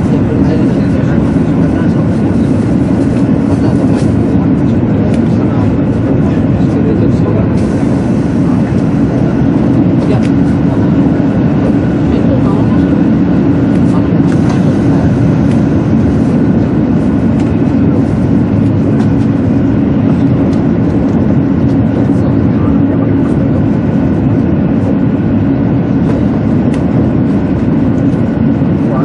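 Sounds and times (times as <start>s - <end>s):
train interior rumble: 0.0s - 29.0s.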